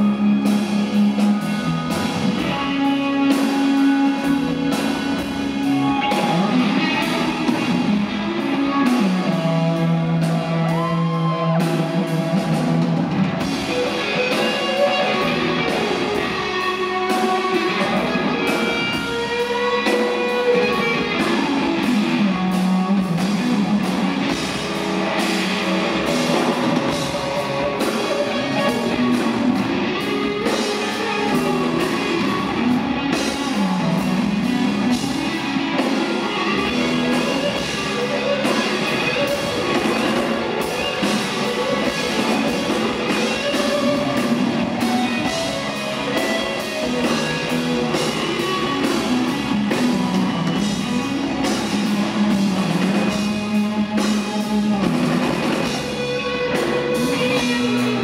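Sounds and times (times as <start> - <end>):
electric guitar bending notes: 0.0 - 58.0
live rock band playing: 0.0 - 58.0.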